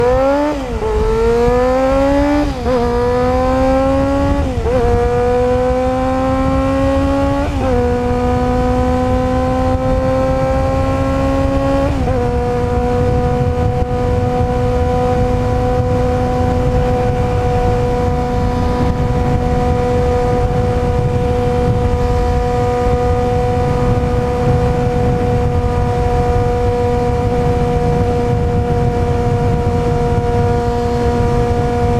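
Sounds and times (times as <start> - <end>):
motorcycle accelerating through gears: 0.0 - 31.9.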